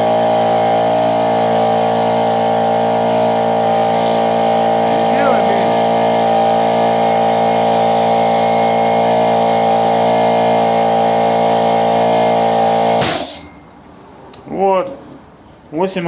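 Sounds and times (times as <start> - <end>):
air compressor running: 0.0 - 13.5.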